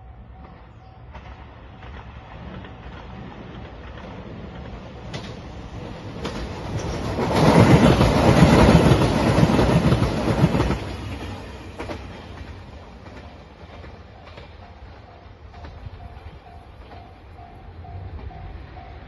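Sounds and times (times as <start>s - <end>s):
diesel train passing: 0.0s - 19.0s
train wheels clattering: 0.3s - 19.0s.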